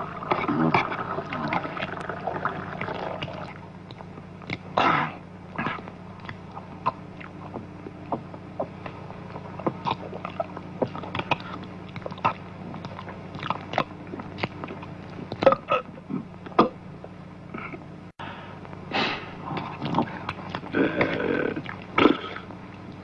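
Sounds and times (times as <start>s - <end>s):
gulping from a cup: 0.0s - 16.8s, 19.4s - 23.0s
steady low hum: 0.0s - 23.0s.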